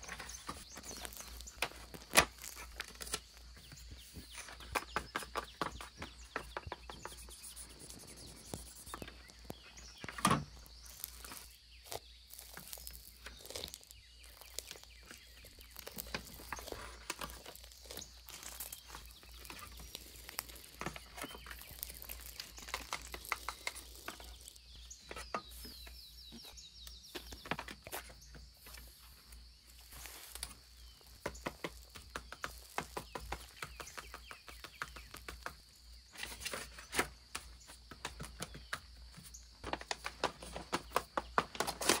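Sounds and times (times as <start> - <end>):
stickers peeling and tapping: 0.0 - 42.0.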